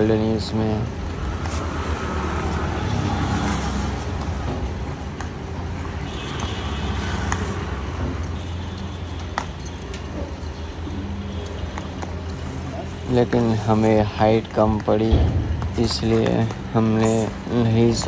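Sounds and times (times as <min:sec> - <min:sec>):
motor vehicle rumble: 0:00.0 - 0:18.0.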